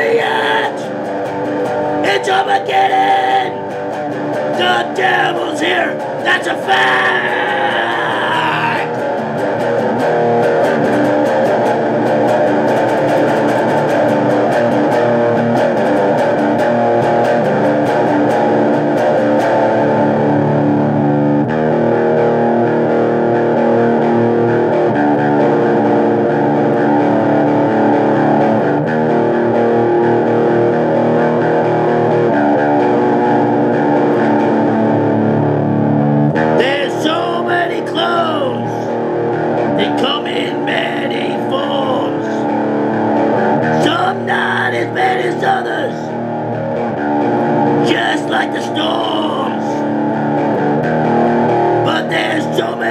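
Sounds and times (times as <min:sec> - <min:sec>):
distorted electric guitar riff: 0:00.0 - 0:52.9.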